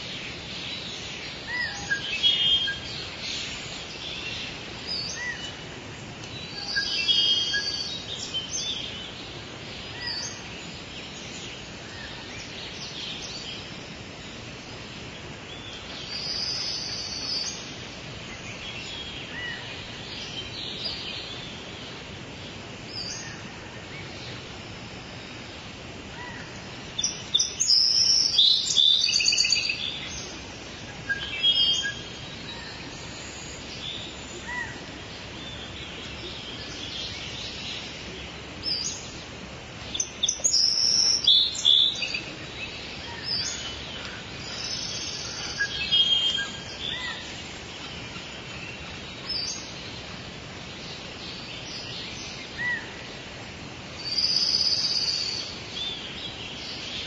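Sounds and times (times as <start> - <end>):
rainforest birds chirping and trilling: 0.0 - 57.0
steady background hiss: 0.0 - 57.0.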